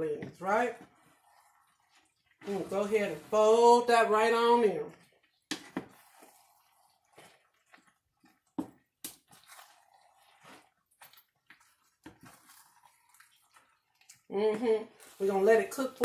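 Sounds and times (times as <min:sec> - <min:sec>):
wet squelches of food stirring: 0:00.0 - 0:16.0.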